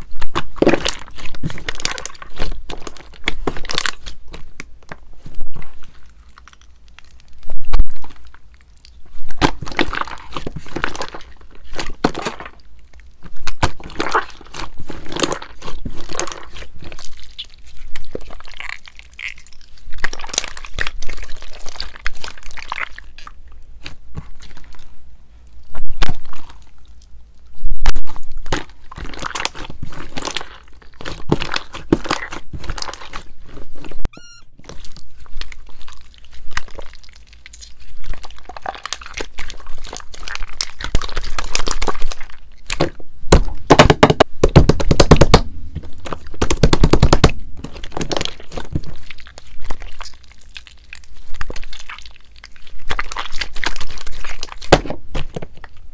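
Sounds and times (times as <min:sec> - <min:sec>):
slime clicking and crunching: 0:00.0 - 0:24.9, 0:27.7 - 0:33.3, 0:34.2 - 0:45.4, 0:46.0 - 0:55.9
slime squelching: 0:00.0 - 0:43.9, 0:45.7 - 0:55.9.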